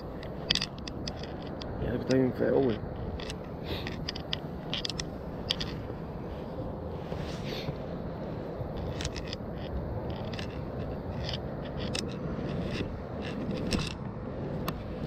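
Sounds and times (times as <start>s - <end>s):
scraping and rustling: 0.0s - 15.0s.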